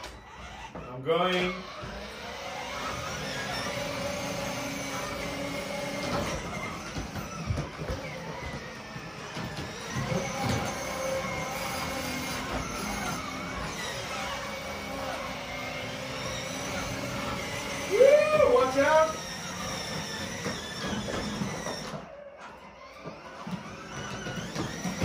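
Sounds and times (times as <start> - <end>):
electric toy motors whining: 0.0 - 25.0.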